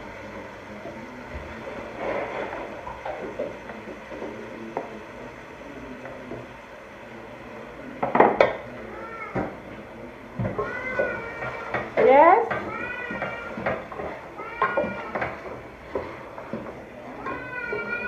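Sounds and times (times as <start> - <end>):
utensil clatter: 0.0 - 6.6, 7.8 - 18.0.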